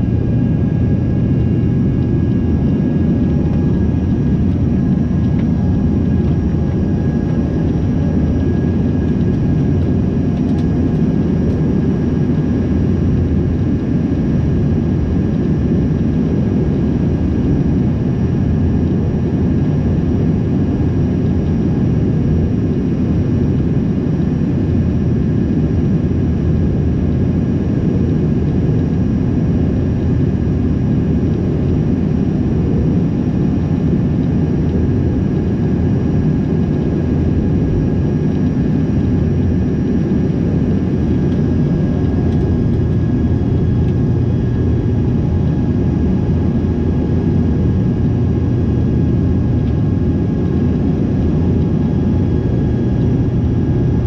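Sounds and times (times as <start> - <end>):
jet cabin engine rumble: 0.0 - 54.0.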